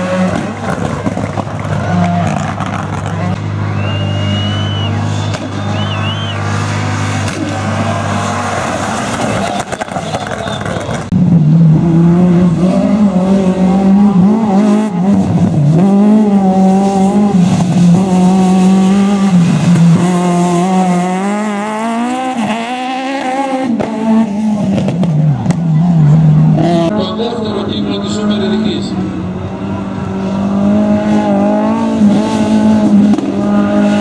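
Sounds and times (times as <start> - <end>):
car passing: 0.0 - 34.0
rally car engine revving: 0.0 - 34.0.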